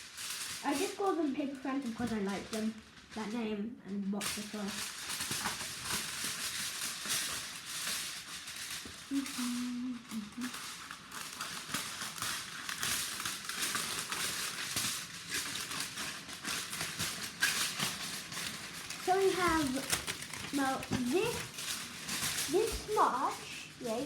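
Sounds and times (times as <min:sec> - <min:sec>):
aluminium foil crinkling: 0:00.0 - 0:24.0.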